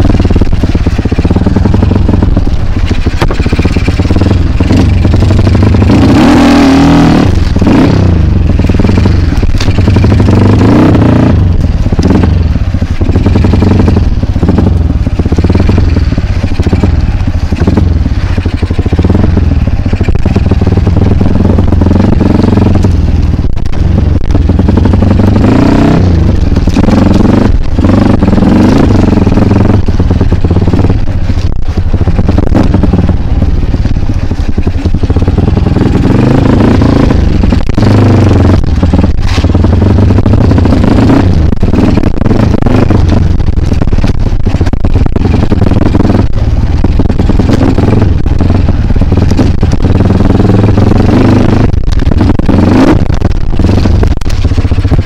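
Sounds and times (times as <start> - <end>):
engine clattering: 0.0 - 55.0
motorbike engine revving: 0.0 - 55.0.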